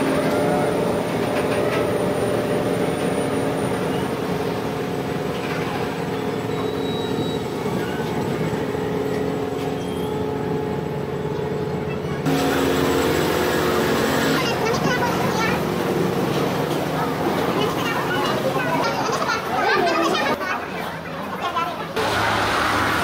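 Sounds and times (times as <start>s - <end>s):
ferry engine droning: 0.0s - 23.0s.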